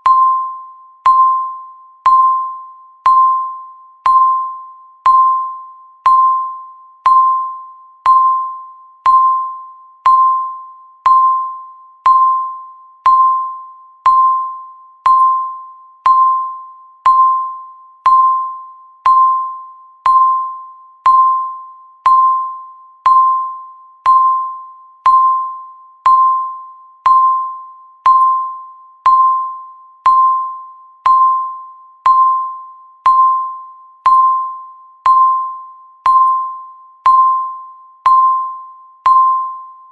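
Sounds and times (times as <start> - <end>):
electronic timer beeps: 0.0 - 39.9.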